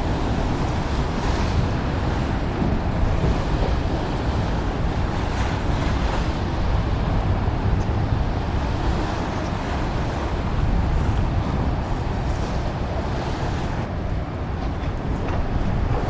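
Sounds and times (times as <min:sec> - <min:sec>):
waves washing at shore: 0:00.0 - 0:16.0
wind rumbling on microphone: 0:00.0 - 0:16.0.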